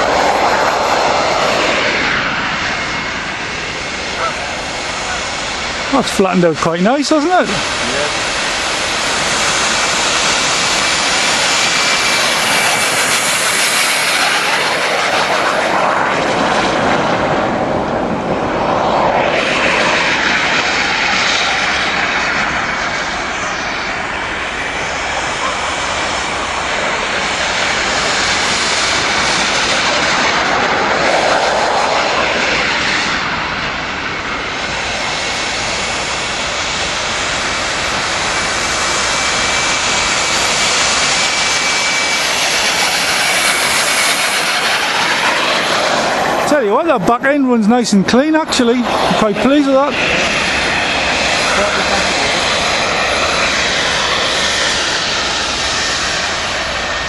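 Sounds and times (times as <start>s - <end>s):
jet boat turbine whine: 0.0s - 57.0s.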